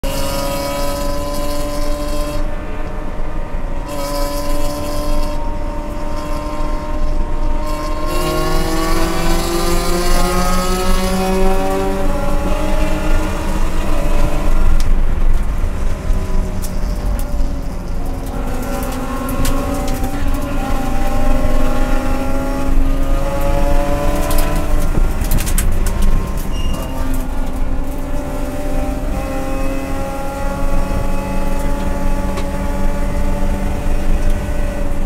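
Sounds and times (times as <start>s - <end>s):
race car engine accelerating: 0.0s - 35.0s
road and wind noise: 0.0s - 35.0s.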